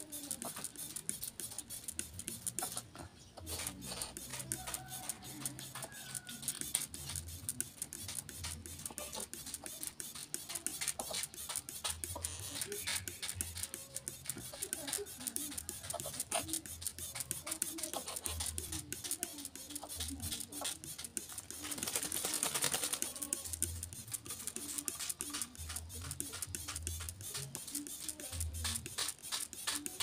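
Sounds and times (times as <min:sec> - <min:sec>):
faint music: 0:00.0 - 0:30.0.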